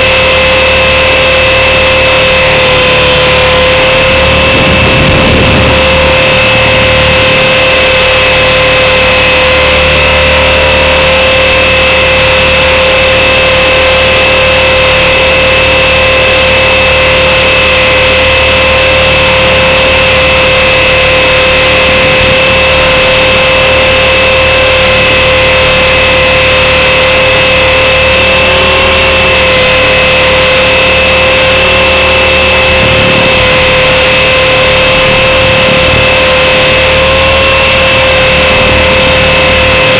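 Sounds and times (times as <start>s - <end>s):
helicopter motor whine: 0.0s - 39.9s
rushing noise: 0.0s - 39.9s.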